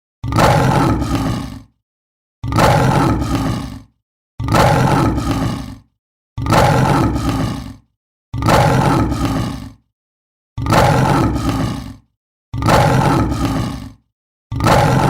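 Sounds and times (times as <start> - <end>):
lion roaring: 0.2 - 1.8, 2.4 - 9.9, 10.6 - 15.0.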